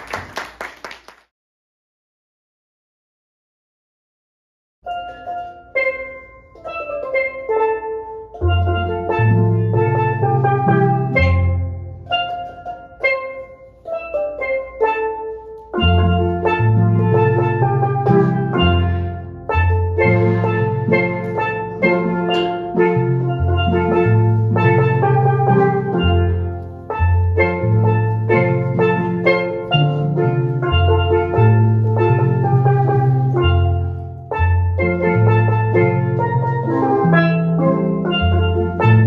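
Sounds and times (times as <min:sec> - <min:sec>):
steel pan melody: 0:04.8 - 0:39.0
bass pan notes: 0:04.9 - 0:39.0.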